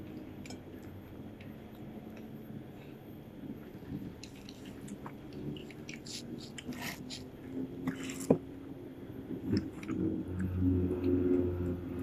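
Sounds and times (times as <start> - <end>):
soft wet chewing: 0.0 - 8.6, 9.3 - 11.5.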